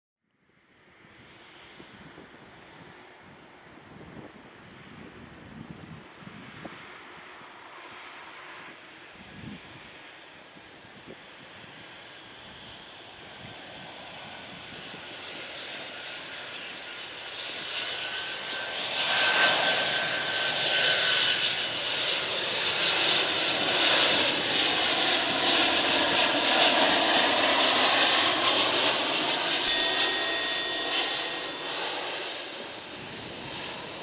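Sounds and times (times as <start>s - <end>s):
thin fan whine: 0.4s - 34.0s
jet engines on approach: 1.0s - 34.0s.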